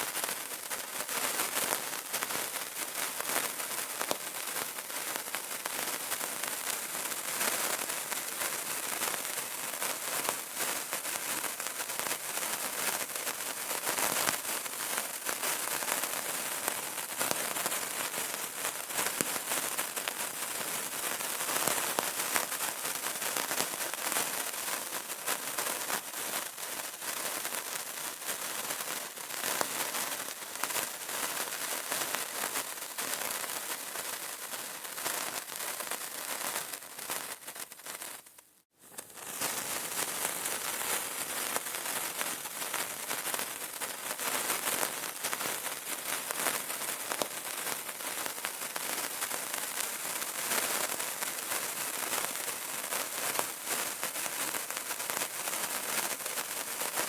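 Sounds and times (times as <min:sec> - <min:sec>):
candle crackling: 0:00.0 - 0:57.0.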